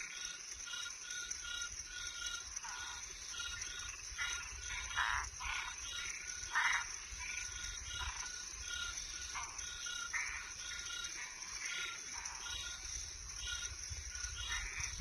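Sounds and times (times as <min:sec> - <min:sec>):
frogs calling: 0:00.0 - 0:15.0
rasping frog calls: 0:00.0 - 0:15.0.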